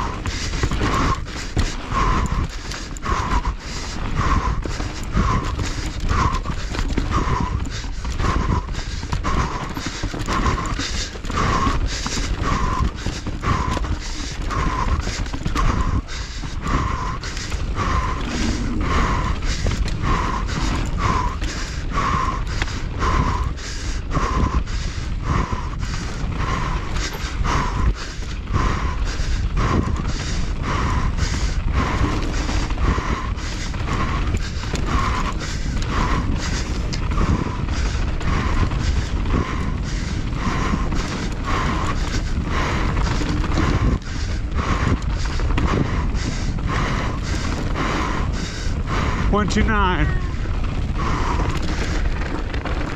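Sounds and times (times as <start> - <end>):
bike clattering and rattling: 0.0 - 52.9
bike tyres on dirt: 0.0 - 52.9
wind buffeting microphone: 0.0 - 52.9.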